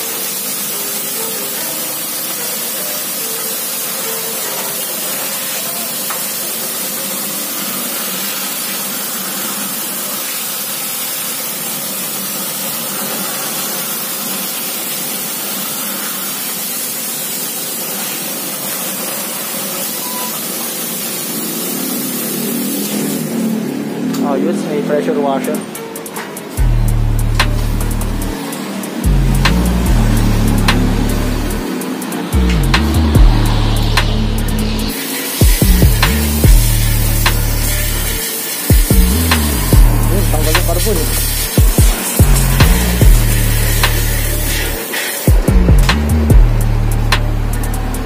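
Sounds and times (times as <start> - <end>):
pressure washer spraying water: 0.0 - 48.0.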